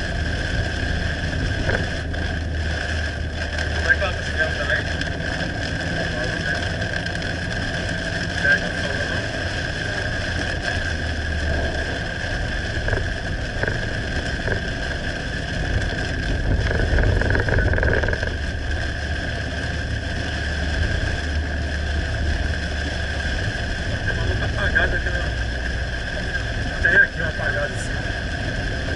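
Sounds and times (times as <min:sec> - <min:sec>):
car road noise in cabin: 0:00.0 - 0:28.9.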